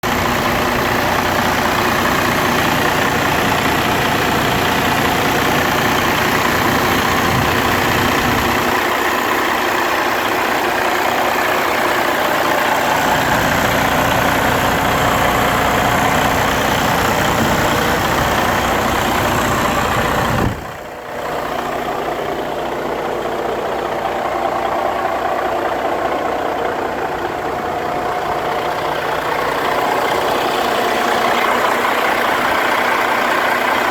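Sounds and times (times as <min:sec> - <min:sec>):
heavy truck engine idling: 0:00.0 - 0:33.9.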